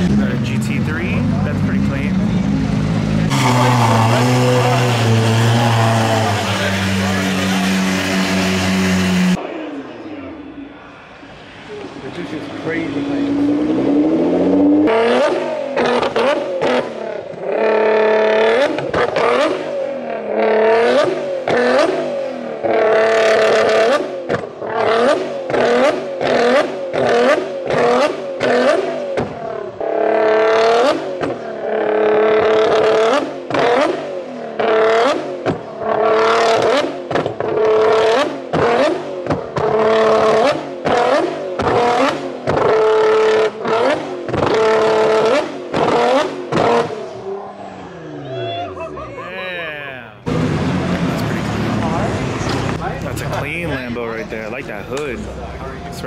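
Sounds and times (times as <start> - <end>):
car engine revving hard: 0.0 - 9.6, 12.2 - 48.2, 50.2 - 55.6.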